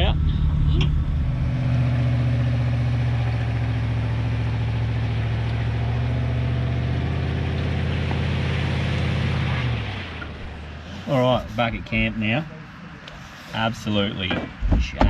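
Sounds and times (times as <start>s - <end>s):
vehicle engine running low revs: 0.0s - 13.0s.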